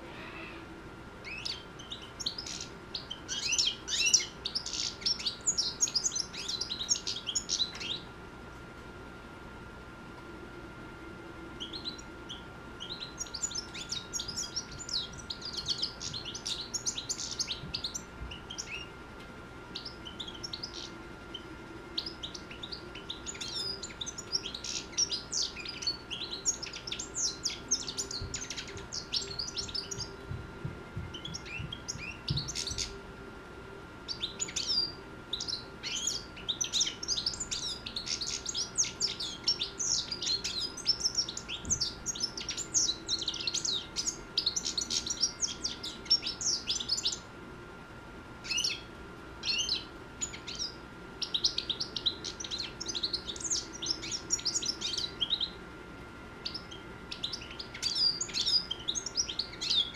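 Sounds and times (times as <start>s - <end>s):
goldfinch twittering: 1.2s - 8.0s, 11.6s - 18.9s, 19.8s - 30.2s, 31.0s - 33.0s, 34.1s - 47.2s, 49.4s - 55.6s, 56.4s - 59.9s.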